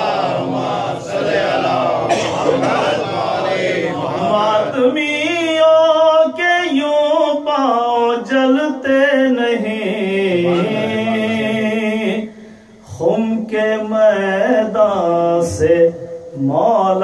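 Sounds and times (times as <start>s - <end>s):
man chanting unaccompanied: 0.0s - 17.0s.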